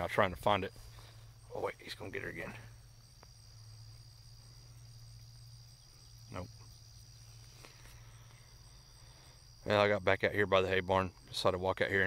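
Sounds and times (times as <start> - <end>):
low steady hum: 0.0 - 11.9
insects trilling: 0.0 - 12.0.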